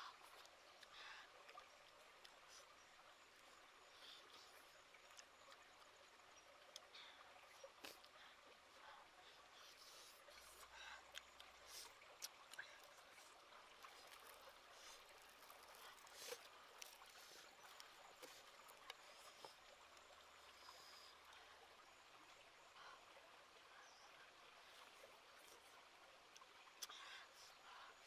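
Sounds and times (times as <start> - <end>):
stream trickling: 0.0 - 28.0.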